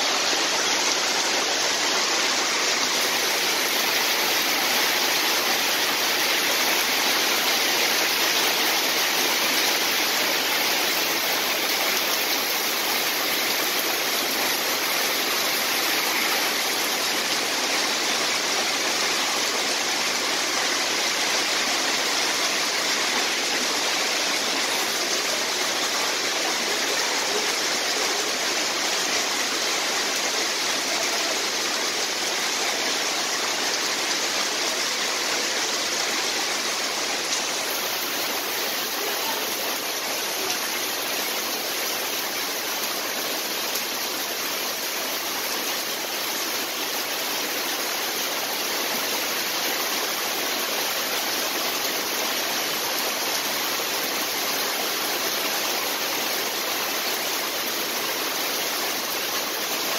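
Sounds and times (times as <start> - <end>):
heavy rain: 0.0 - 59.9
water pouring off roof: 0.0 - 59.9.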